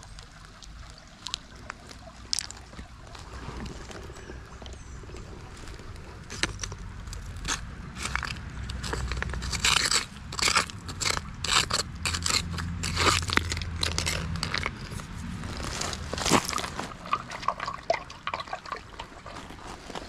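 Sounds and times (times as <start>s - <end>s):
hand digging through gravel: 1.3s - 4.4s, 5.0s - 17.8s, 18.4s - 20.0s.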